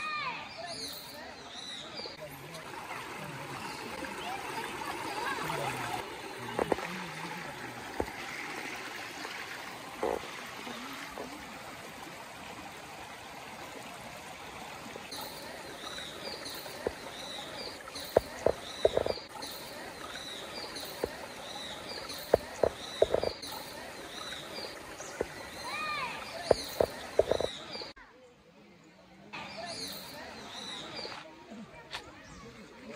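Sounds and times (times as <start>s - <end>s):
stream flowing over stones: 0.0s - 28.0s.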